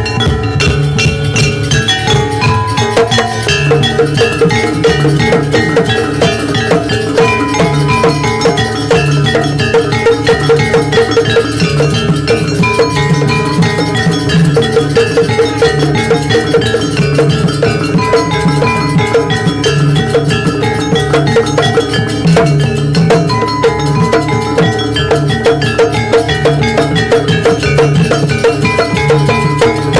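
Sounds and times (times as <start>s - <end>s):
drums: 0.0s - 29.9s
metal percussion strikes: 0.0s - 29.9s
pitched metal melodic notes: 0.0s - 29.9s.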